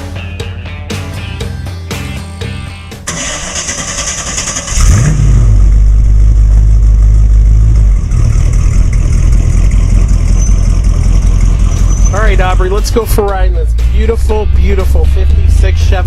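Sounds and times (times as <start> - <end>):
car engine starting and idling: 2.4 - 16.0.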